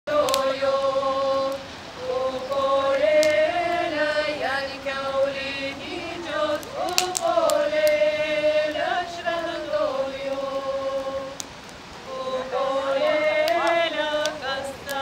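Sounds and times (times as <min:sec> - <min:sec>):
women singing unaccompanied: 0:00.1 - 0:15.0.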